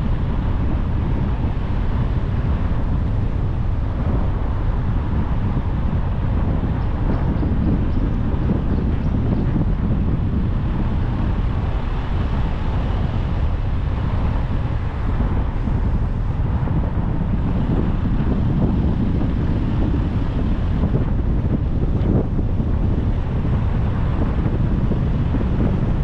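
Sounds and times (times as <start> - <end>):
tyre and wind rumble: 0.0 - 26.0.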